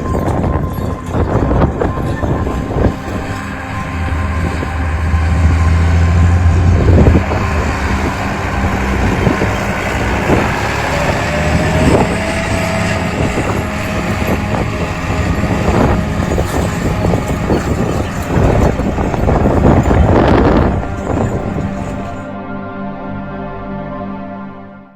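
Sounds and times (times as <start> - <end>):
faint rising whine: 0.0 - 22.3
tractor diesel engine under load: 0.0 - 22.3.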